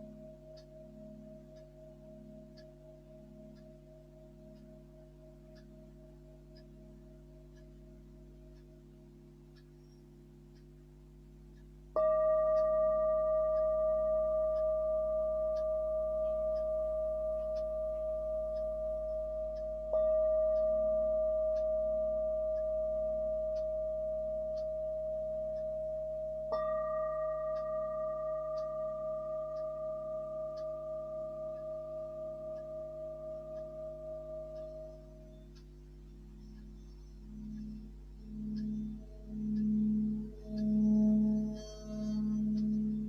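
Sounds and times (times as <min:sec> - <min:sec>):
singing bowl ringing: 0:00.0 - 0:10.5, 0:11.4 - 0:43.0.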